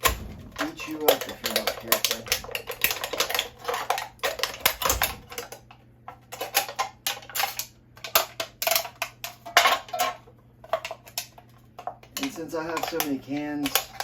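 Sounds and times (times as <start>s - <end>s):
thin aluminum crackling and clicking: 0.0s - 14.0s.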